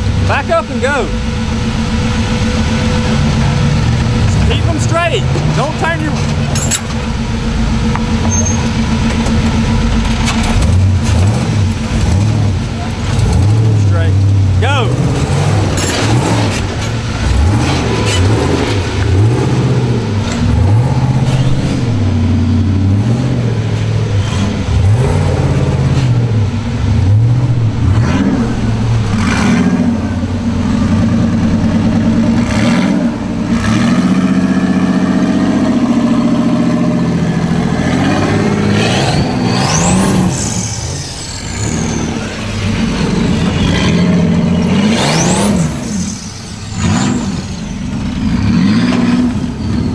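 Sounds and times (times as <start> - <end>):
buggy engines revving: 0.0 - 49.9.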